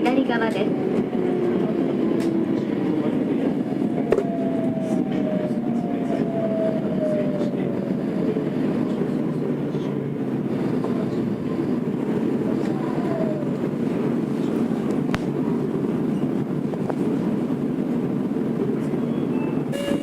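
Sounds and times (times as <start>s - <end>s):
wheel and rail rumble: 0.0s - 20.0s.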